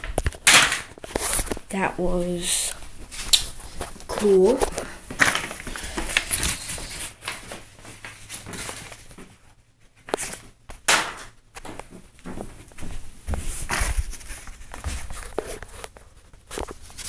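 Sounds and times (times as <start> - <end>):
handling knocks and rustles: 0.0 - 17.0.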